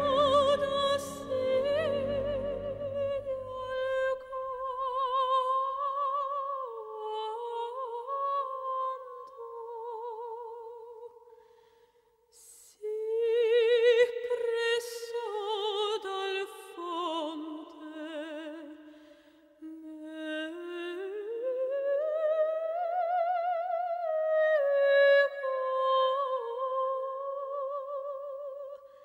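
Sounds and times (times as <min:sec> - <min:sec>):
soprano singing opera: 0:00.0 - 0:11.3, 0:12.4 - 0:29.0.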